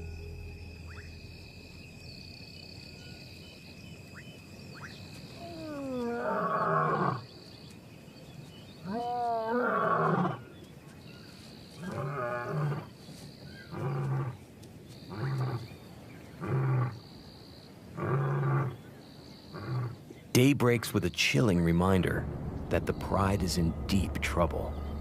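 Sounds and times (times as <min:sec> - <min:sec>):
insects chirping: 0:00.0 - 0:20.1, 0:21.6 - 0:25.0.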